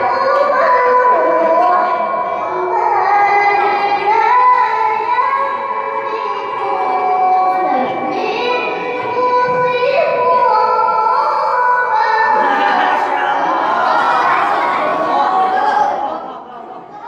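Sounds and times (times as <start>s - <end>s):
girl reciting melodically: 0.0s - 17.0s.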